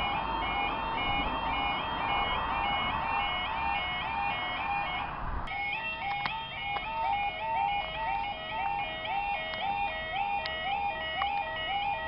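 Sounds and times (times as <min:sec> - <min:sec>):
two-tone crossing alarm warble: 0:00.0 - 0:12.0.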